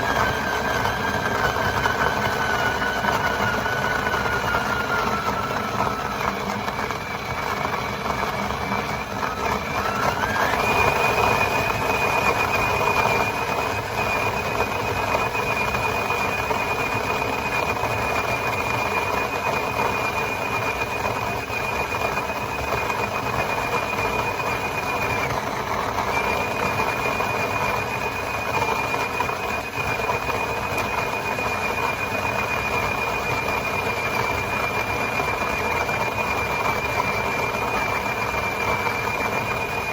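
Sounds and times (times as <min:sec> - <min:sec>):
coffee grinder motor whining: 0:00.0 - 0:39.9.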